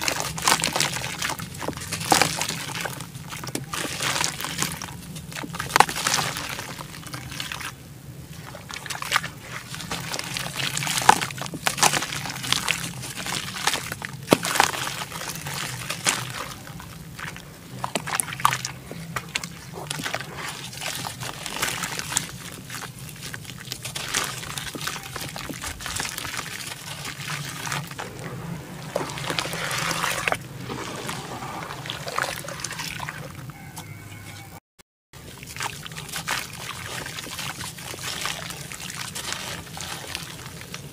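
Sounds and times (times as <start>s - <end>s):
soaked dirt clumps crackling: 0.0s - 34.4s, 35.2s - 40.9s
hands squelching wet mud: 0.0s - 34.5s, 35.2s - 40.9s.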